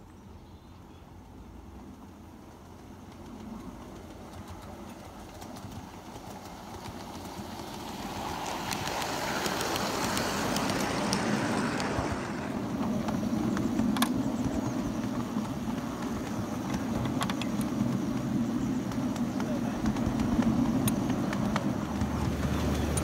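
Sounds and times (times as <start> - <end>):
train wheels rolling on rails: 1.6 - 23.0.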